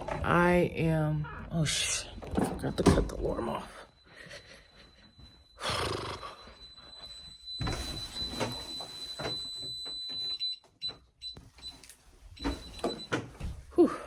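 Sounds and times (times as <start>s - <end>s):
alarm panel beeping: 0.0s - 11.8s, 12.4s - 13.2s.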